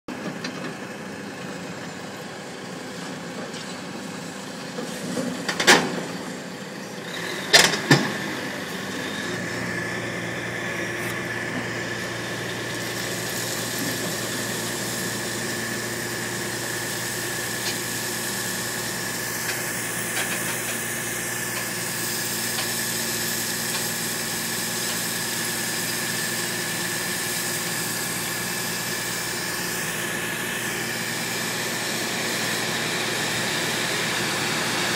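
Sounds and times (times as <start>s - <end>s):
diesel truck engine running: 4.0s - 34.9s.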